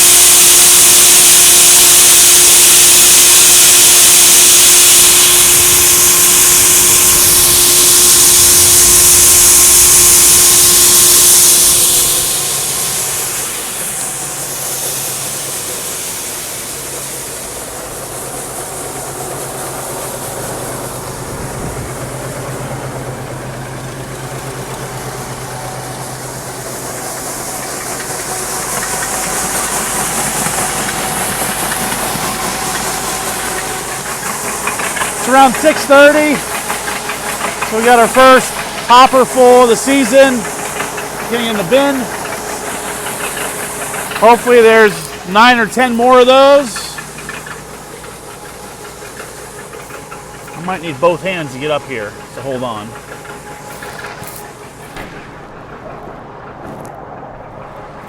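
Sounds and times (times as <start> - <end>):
combine harvester engine drone: 0.0 - 58.0
loud rushing hiss: 0.0 - 58.0.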